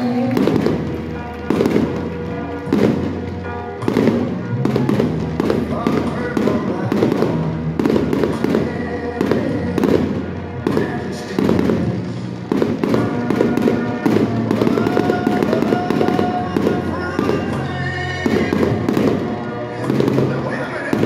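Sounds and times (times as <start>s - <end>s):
fireworks bangs and crackling: 0.0s - 21.0s
loud music with held notes: 0.0s - 21.0s.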